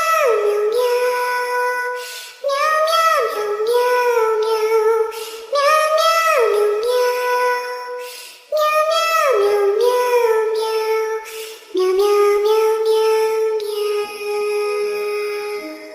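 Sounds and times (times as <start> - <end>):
high-pitched singing voice: 0.0 - 15.9.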